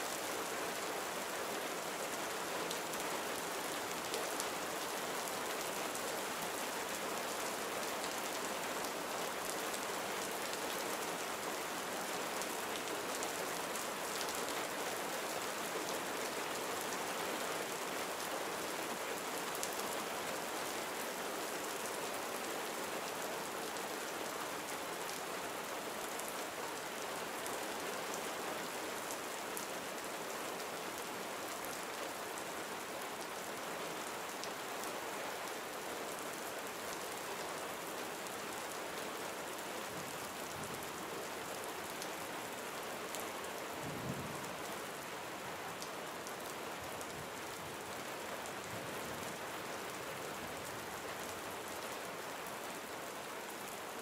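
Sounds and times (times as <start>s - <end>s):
gentle rain pattering: 0.0s - 54.0s.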